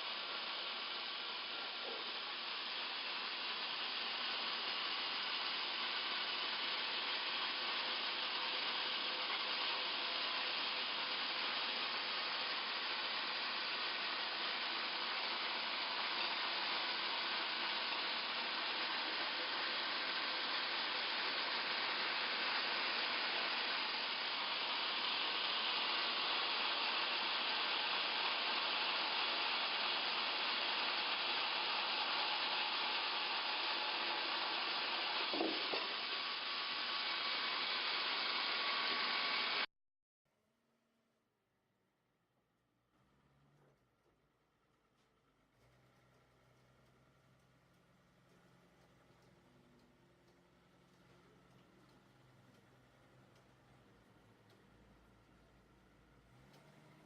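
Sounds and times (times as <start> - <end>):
wood-milling machinery running: 0.0 - 39.7, 45.6 - 57.0.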